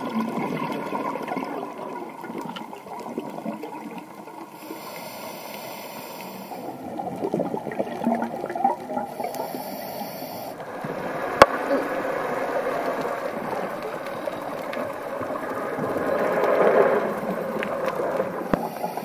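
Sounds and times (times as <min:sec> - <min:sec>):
underwater regulator bubbles gurgling: 0:00.0 - 0:19.0.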